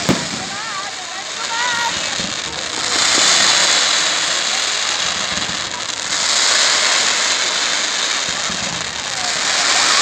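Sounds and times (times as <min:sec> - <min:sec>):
fireworks hissing: 0:00.0 - 0:10.0.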